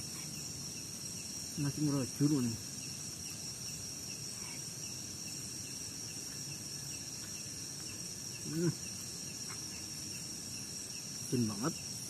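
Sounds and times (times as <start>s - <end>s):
faint insect chirps: 0.0s - 12.0s
high-pitched insect buzz: 0.0s - 12.0s.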